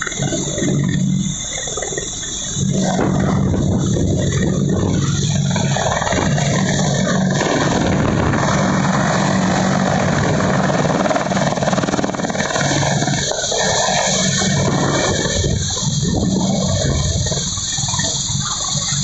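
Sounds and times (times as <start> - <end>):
helicopter engines and rotor: 0.0 - 19.0.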